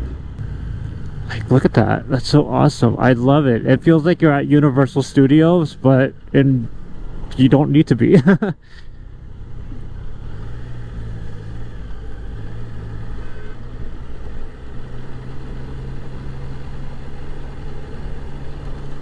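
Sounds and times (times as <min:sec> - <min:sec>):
motorcycle engine running: 0:00.0 - 0:07.3, 0:08.2 - 0:19.0
wind and road noise: 0:00.0 - 0:19.0.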